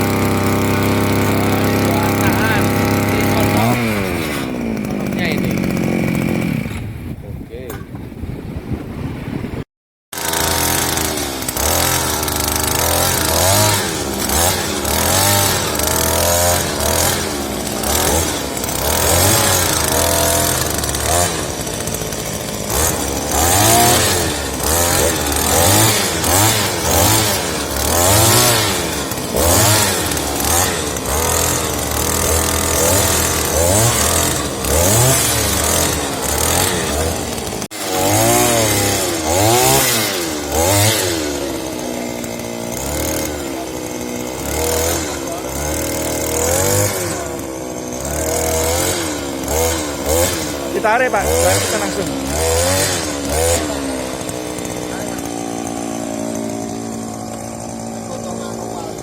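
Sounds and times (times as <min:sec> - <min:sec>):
earth auger engine revving: 0:00.0 - 0:08.0, 0:10.1 - 0:59.0.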